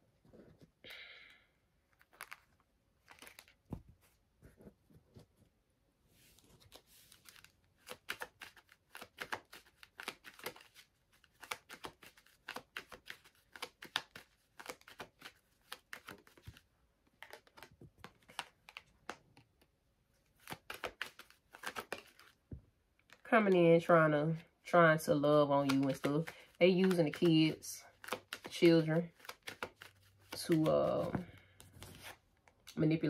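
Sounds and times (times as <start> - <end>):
cards shuffling: 1.9 - 5.4, 6.4 - 22.4, 25.2 - 32.8.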